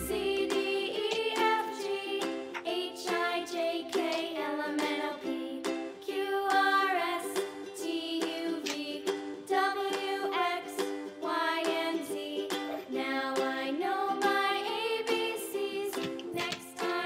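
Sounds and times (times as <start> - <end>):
plucked ukulele music: 0.0 - 17.0.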